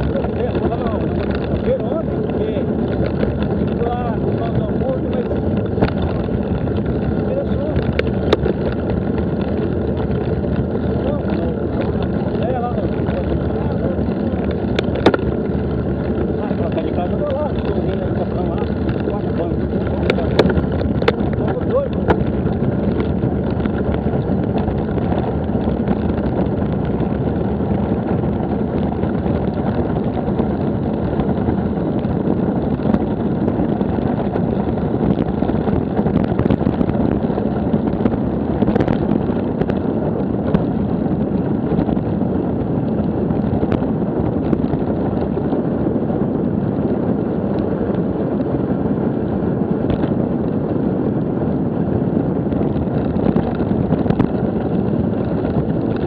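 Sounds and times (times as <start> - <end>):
bicycle rolling noise: 0.0 - 56.0
wind rumble on microphone: 0.0 - 56.0.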